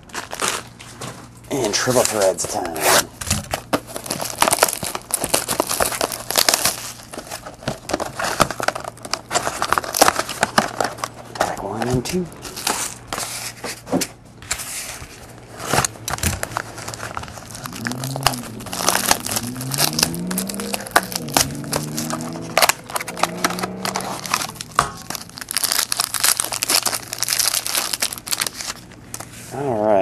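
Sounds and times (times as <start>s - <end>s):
card pack wrappers crinkling and tearing: 0.0s - 13.8s, 14.5s - 29.4s.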